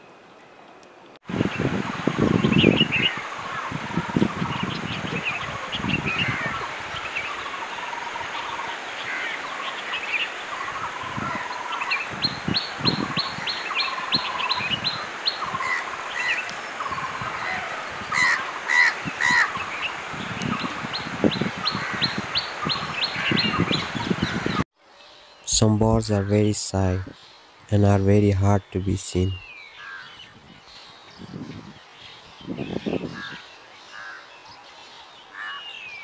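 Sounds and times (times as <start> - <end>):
wild birds calling and singing: 0.0 - 36.0.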